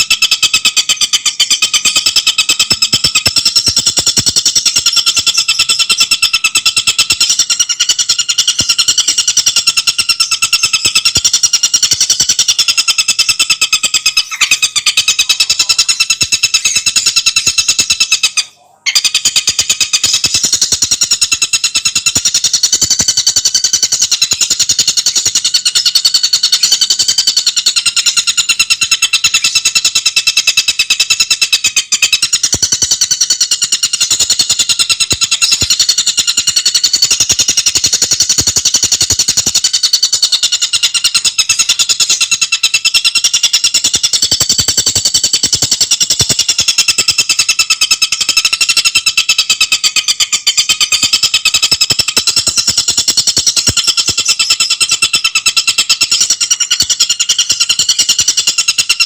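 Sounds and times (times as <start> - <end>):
bird singing rapid trill: 0.0 - 59.0.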